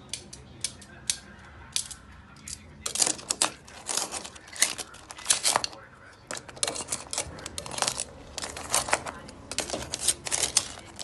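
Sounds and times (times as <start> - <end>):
metal tongs clacking on crab shells: 0.0 - 11.0.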